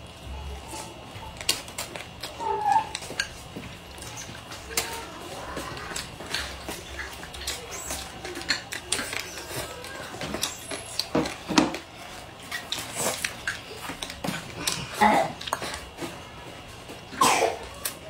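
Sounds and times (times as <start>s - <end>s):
chewing and lip smacking: 1.2s - 16.0s.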